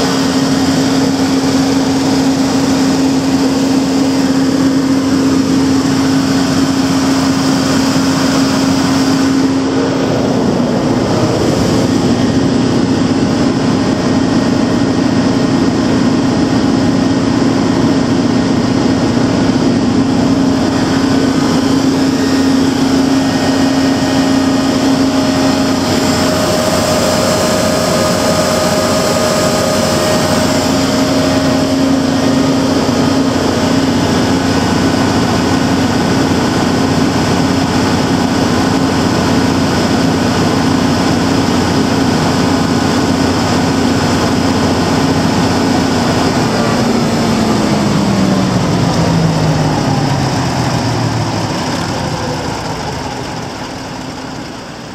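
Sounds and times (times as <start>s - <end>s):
diesel generator running: 0.0s - 54.9s
steady hum: 0.0s - 54.9s.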